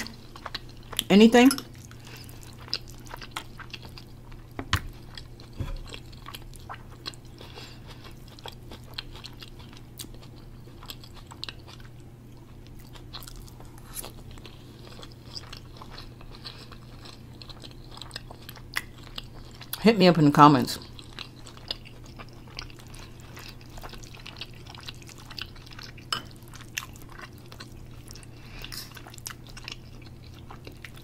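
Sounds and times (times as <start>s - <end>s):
person chewing: 0.0s - 19.8s, 20.8s - 31.0s.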